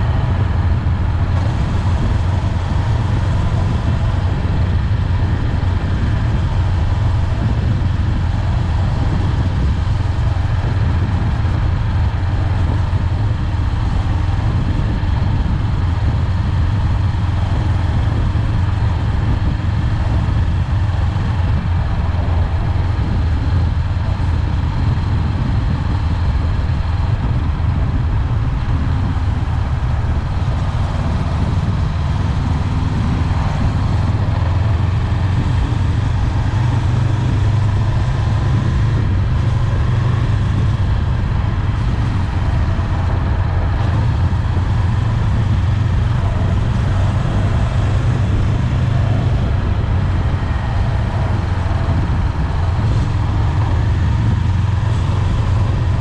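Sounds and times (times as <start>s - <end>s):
motorcycle engine running: 0.0s - 56.0s
wind rushing noise: 0.0s - 56.0s.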